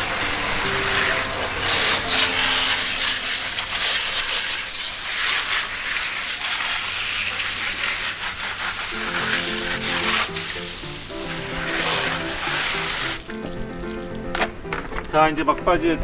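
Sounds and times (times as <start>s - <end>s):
hose spray hissing and splashing: 0.0s - 14.2s.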